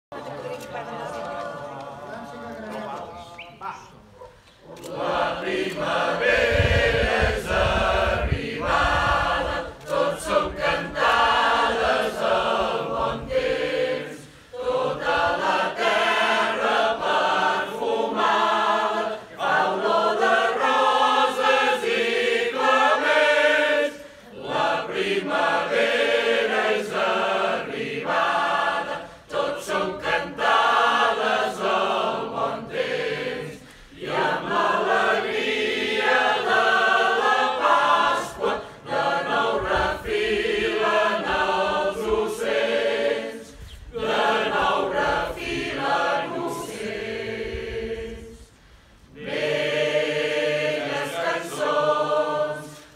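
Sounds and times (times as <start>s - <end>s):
mixed choir singing: 4.6s - 52.9s.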